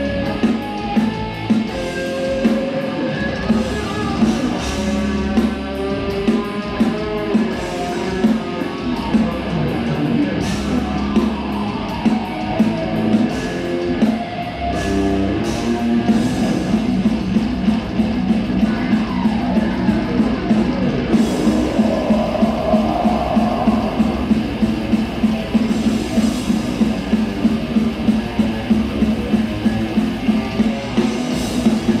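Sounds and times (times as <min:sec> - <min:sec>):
distorted electric guitar riffing: 0:00.0 - 0:32.0
drum kit: 0:00.0 - 0:32.0.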